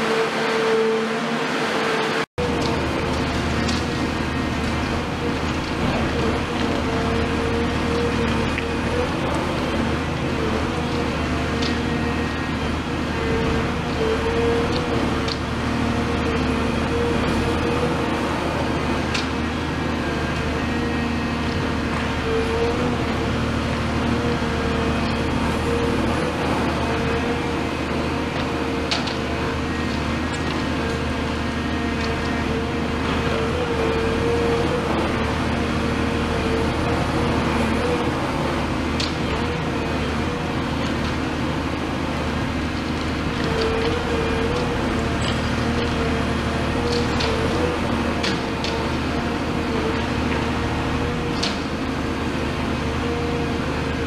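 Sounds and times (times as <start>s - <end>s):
diesel excavator engine running: 0.0s - 54.0s.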